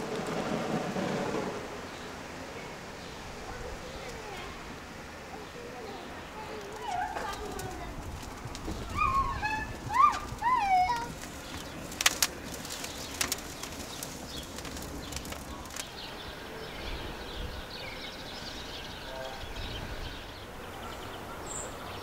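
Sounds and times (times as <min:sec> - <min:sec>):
small birds chirping: 0:01.8 - 0:22.0.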